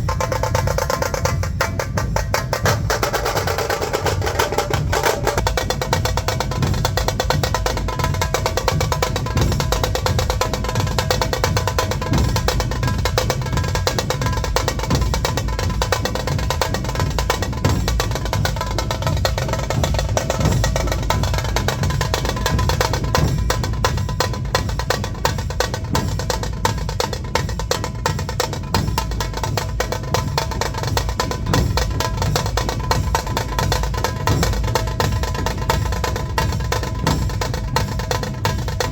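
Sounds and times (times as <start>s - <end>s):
deep barrel drums beating: 0.0s - 38.9s
high drums rapid stick rolls: 0.0s - 38.9s.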